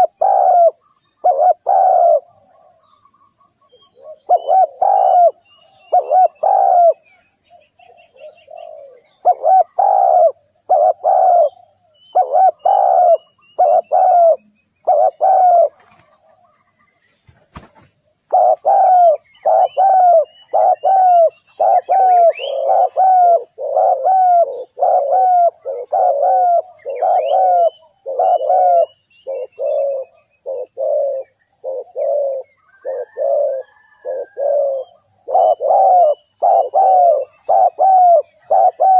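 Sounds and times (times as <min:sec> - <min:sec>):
dove cooing: 0:00.0 - 0:07.0, 0:07.8 - 0:16.6, 0:17.5 - 0:38.9.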